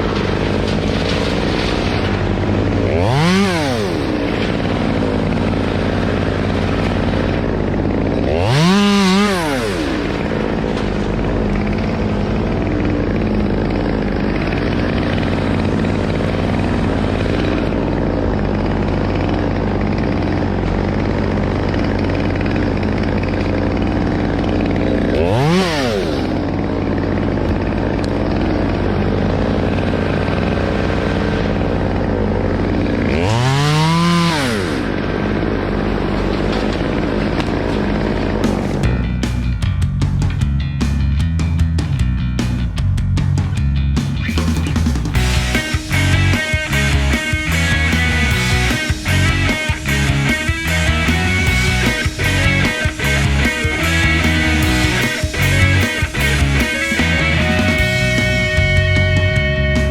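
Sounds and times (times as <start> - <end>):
chainsaw revving: 0.0 - 39.4, 44.0 - 59.9
chainsaw idling: 0.0 - 43.0, 43.8 - 59.9.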